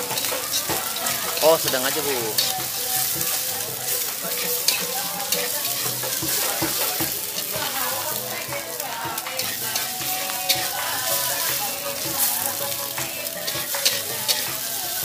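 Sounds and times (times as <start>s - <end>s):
noodles sizzling in a hot pan: 0.0s - 15.0s.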